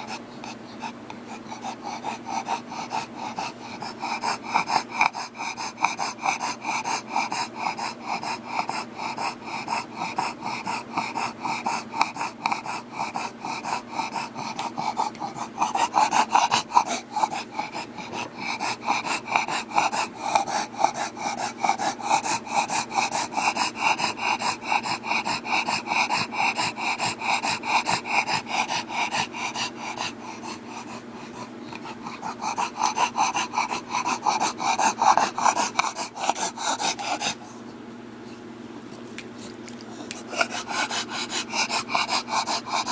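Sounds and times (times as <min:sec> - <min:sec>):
dog breathing heavily: 0:00.0 - 0:37.8, 0:39.3 - 0:42.9.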